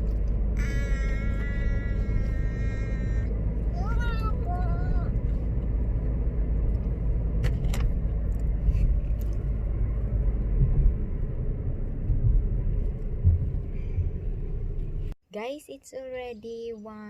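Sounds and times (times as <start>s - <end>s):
car road noise rumble: 0.0s - 15.2s.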